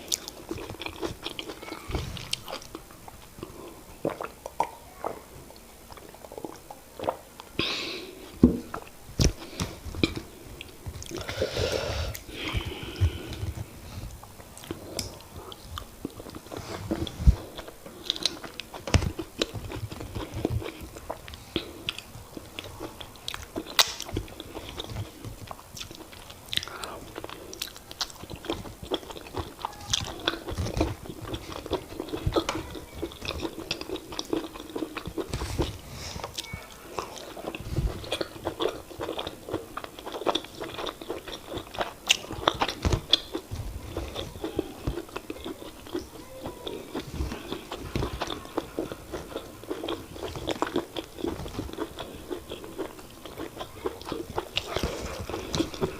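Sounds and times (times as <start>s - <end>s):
wet sticky chewing: 0.0s - 7.6s, 8.6s - 55.9s.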